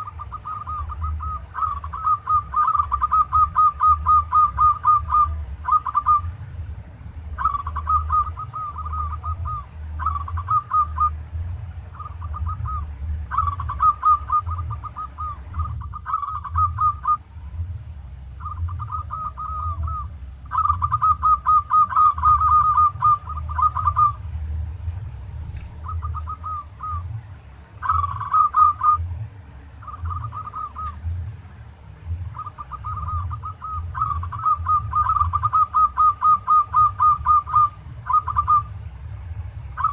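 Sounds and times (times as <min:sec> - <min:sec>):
dove cooing: 0:00.0 - 0:06.6, 0:07.2 - 0:24.4, 0:25.8 - 0:39.9
low steady hum: 0:00.0 - 0:39.9.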